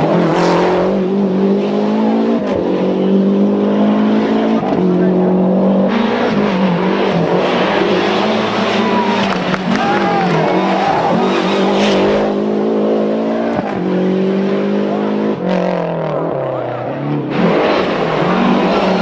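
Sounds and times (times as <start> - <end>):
rally car engine running hard: 0.0 - 19.0.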